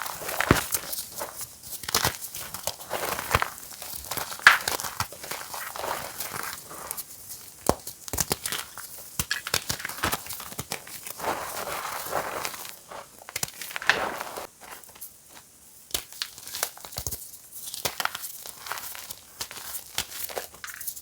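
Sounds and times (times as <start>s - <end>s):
chalk crunching and crackling: 0.0s - 21.0s.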